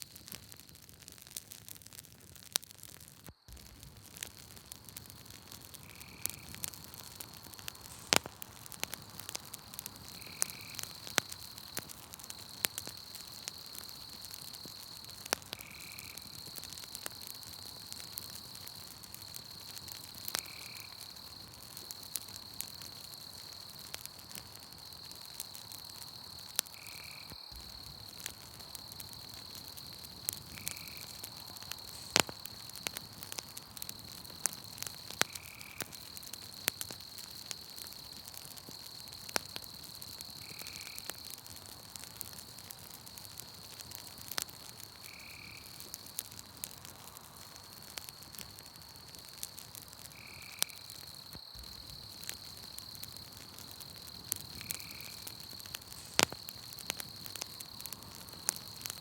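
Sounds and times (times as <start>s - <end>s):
campfire crackling and popping: 0.0s - 59.0s
night insects trilling: 3.2s - 59.0s.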